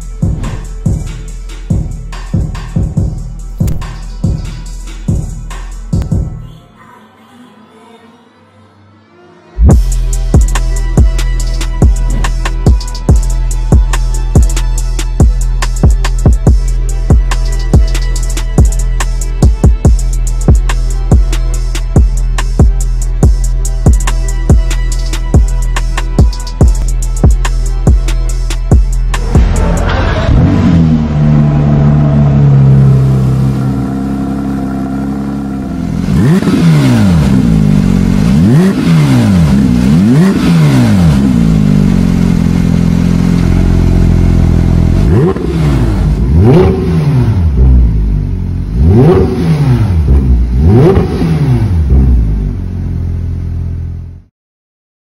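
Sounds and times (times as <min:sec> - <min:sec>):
sports car engine revving: 0:09.6 - 0:54.0.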